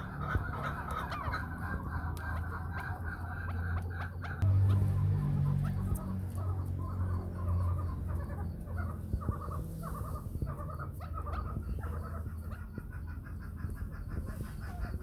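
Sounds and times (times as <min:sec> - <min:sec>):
partridge clucking calls: 0:00.0 - 0:15.0.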